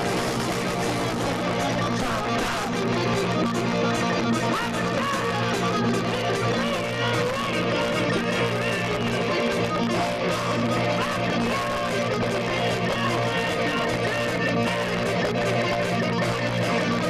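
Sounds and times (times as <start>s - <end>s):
guitar: 0.0s - 17.0s
live band playing: 0.0s - 17.0s.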